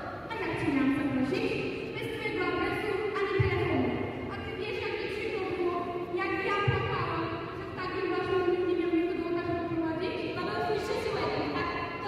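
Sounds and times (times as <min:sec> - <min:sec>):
woman speaking over loudspeakers: 0:00.0 - 0:12.0.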